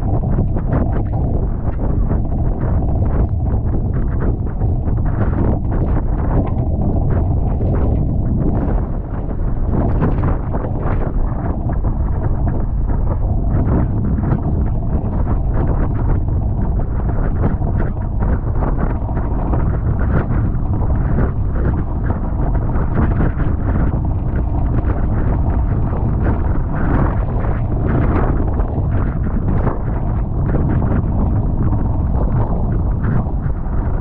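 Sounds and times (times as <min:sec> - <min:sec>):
wind noise on microphone: 0:00.0 - 0:34.0.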